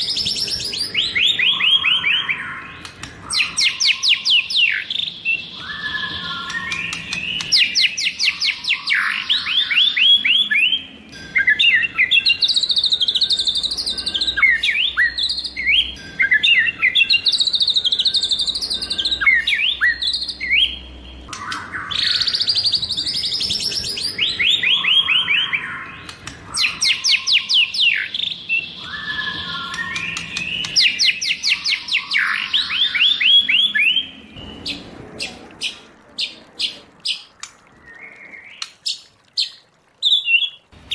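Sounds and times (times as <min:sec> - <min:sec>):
bird singing whistles: 0:00.0 - 0:34.8.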